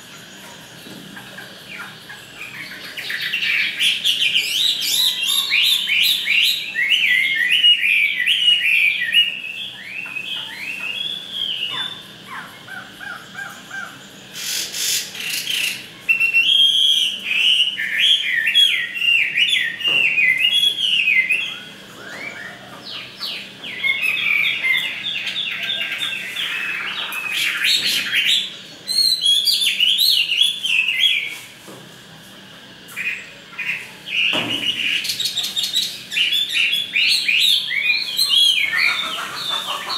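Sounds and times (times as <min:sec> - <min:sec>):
bird singing whistled notes: 0:01.8 - 0:12.2, 0:14.9 - 0:31.3, 0:33.0 - 0:39.7.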